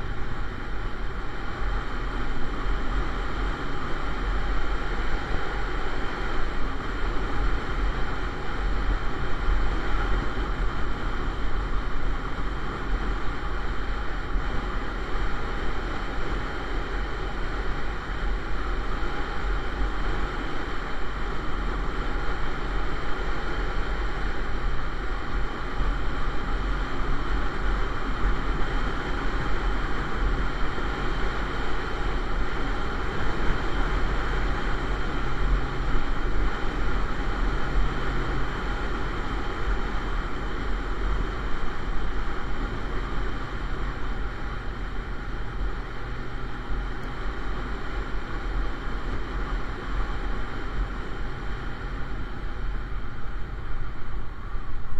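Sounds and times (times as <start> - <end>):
motorcycle engine drone: 0.0 - 54.9.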